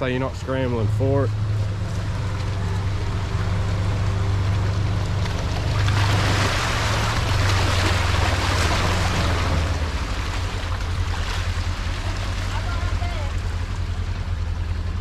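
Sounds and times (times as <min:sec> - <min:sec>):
buggy engine running: 0:00.0 - 0:15.0
water rushing: 0:00.0 - 0:15.0.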